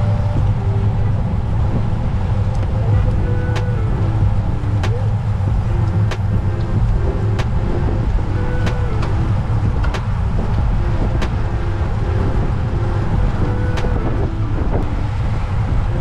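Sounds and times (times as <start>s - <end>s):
road rumble: 0.0s - 16.0s
soft background music: 0.0s - 16.0s
wind noise: 0.0s - 16.0s.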